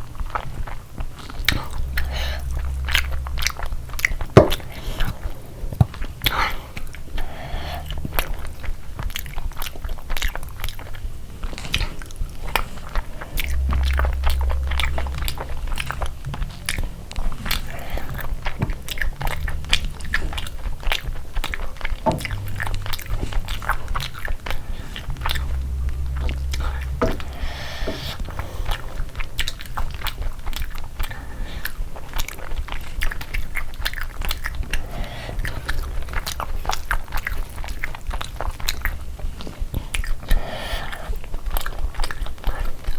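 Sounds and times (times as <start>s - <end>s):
chewing crisp food: 0.0s - 26.9s, 27.8s - 42.9s.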